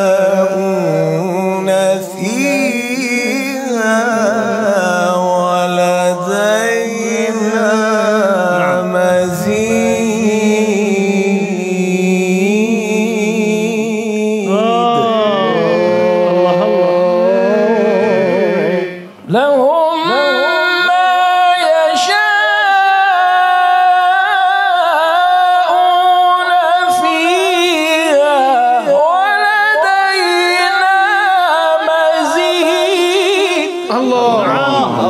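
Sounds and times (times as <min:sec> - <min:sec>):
man chanting melodically: 0:00.0 - 0:35.0.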